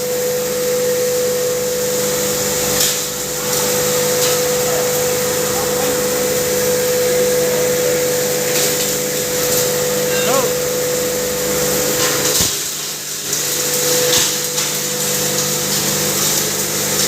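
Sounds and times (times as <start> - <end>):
hammer mill humming: 0.5 - 17.0.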